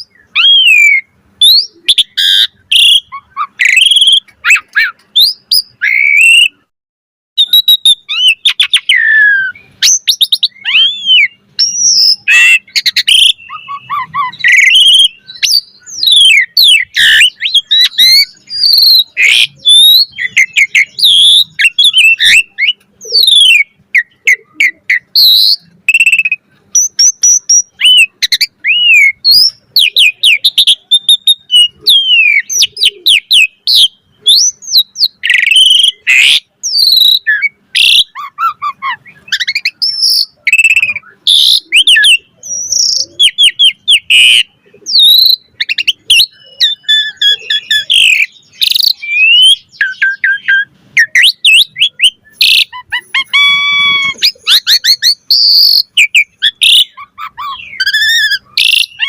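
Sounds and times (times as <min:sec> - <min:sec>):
bird singing varied song: 0:00.0 - 0:06.7, 0:07.4 - 0:59.0.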